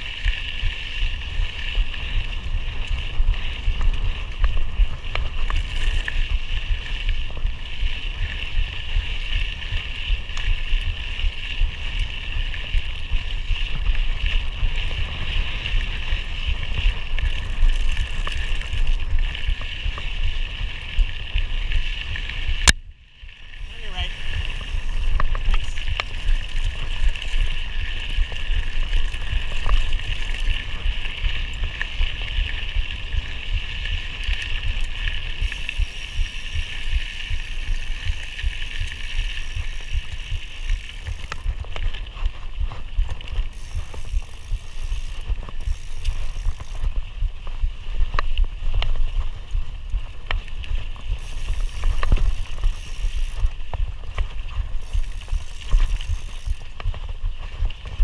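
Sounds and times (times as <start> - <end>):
bike rattling over bumps: 0.0 - 58.0.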